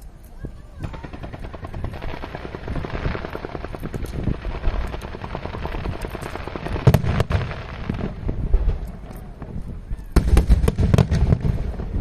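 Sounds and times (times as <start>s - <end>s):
fireworks bang: 0.8s - 12.0s
fireworks popping and cracking: 0.8s - 12.0s.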